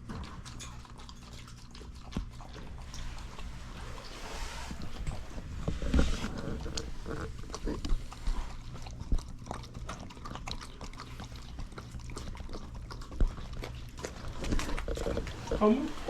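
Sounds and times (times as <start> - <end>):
dogs chewing food: 0.0 - 16.0
dogs snuffling: 0.0 - 16.0.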